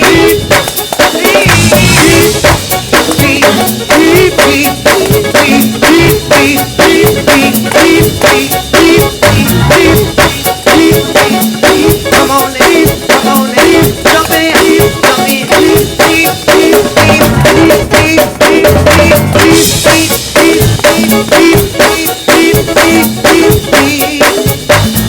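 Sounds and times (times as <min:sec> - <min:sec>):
drum kit hits: 0:00.0 - 0:25.0
live band playing: 0:00.0 - 0:25.0.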